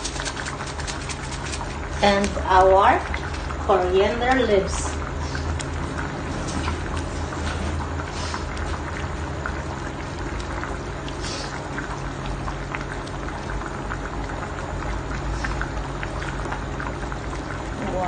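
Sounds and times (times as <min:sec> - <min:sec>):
curry boiling with bubbling pops: 0:00.0 - 0:18.0
low steady hum: 0:00.0 - 0:18.0.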